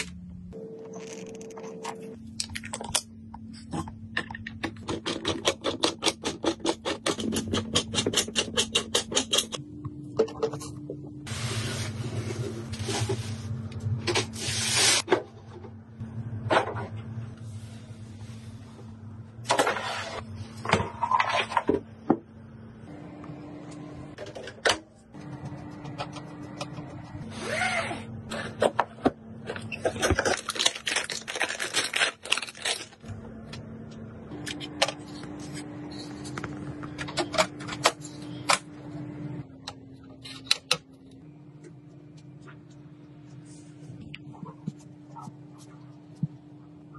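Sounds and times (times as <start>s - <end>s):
steady low hum: 7.6s - 27.4s, 28.0s - 46.9s.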